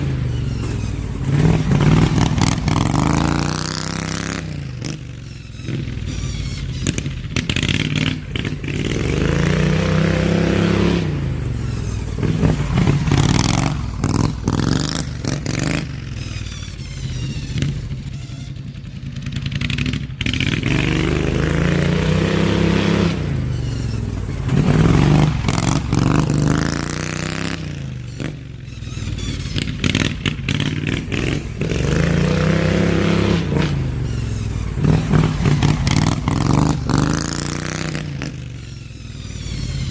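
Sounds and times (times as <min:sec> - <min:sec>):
riding mower engine accelerating: 0:00.0 - 0:39.9.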